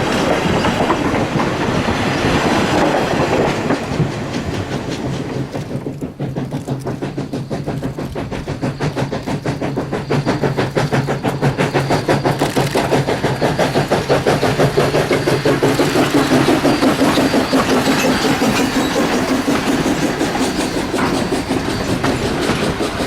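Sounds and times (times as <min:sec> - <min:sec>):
steam locomotive chuffing: 0:00.0 - 0:23.0.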